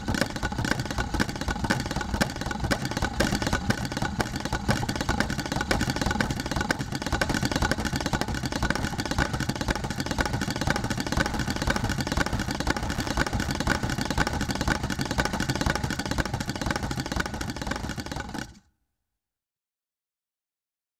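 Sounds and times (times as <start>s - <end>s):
rapid wooden percussion clattering: 0.0s - 18.6s.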